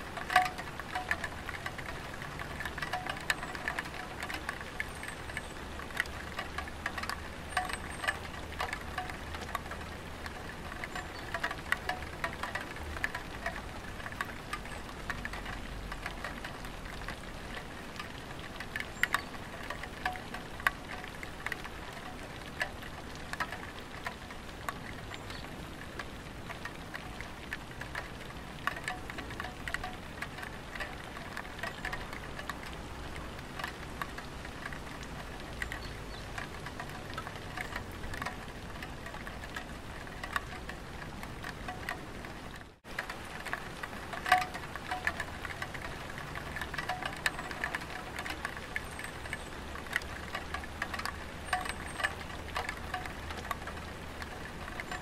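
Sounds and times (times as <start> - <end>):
rain on a tiled roof: 0.0 - 55.0
water drips: 0.0 - 55.0.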